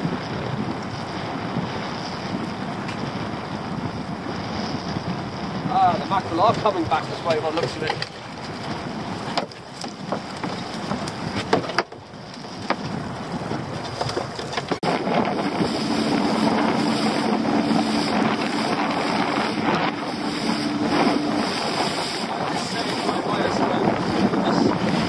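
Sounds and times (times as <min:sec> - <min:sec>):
outboard motor running: 0:00.0 - 0:25.0
rush of wake water: 0:00.0 - 0:25.0
sea slapping against boat: 0:00.0 - 0:25.0
wind buffeting microphone: 0:00.0 - 0:25.0.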